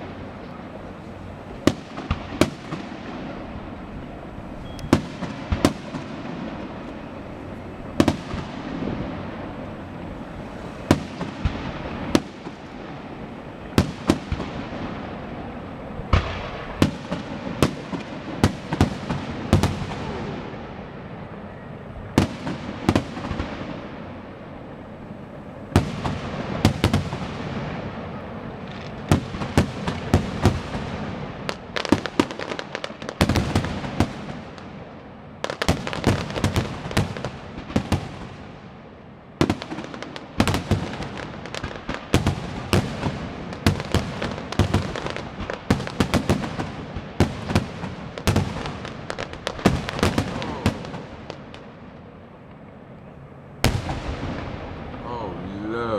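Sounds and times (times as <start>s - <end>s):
fireworks bangs: 0.0s - 52.7s, 53.6s - 55.9s
fireworks crackle and rumble: 0.0s - 55.9s.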